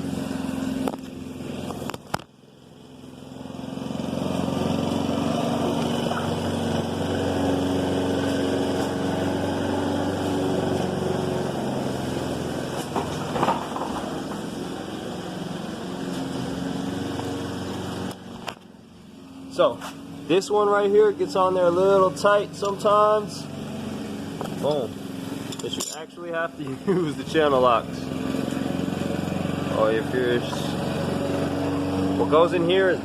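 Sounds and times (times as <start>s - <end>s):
engine running: 0.0s - 33.0s.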